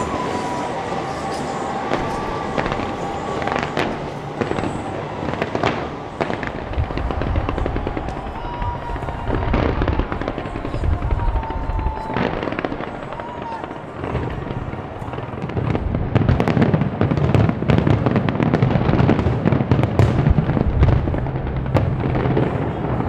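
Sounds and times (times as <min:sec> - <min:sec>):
deep fireworks booms: 0:00.0 - 0:23.0
fireworks bangs and crackles: 0:00.0 - 0:23.0.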